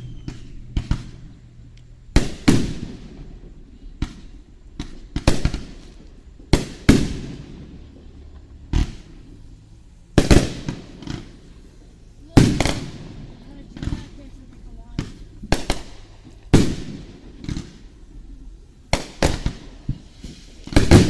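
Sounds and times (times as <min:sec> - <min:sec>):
fireworks bursting with echo: 0:00.0 - 0:21.0.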